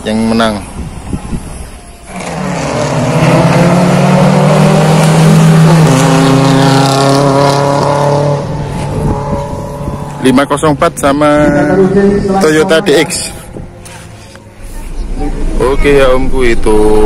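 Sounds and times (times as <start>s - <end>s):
car engine at high revs: 2.0s - 17.0s.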